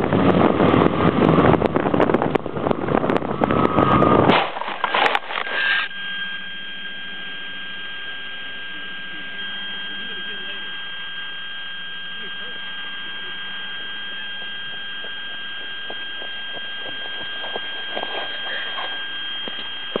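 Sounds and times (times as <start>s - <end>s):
high-pitched electronic whine: 0.0s - 20.0s.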